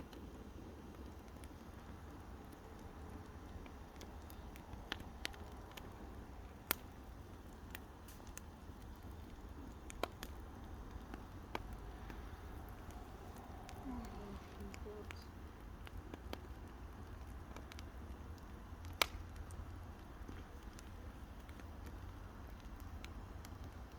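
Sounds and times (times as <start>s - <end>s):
campfire popping and snapping: 0.0s - 23.9s
low steady rumble: 0.0s - 23.9s.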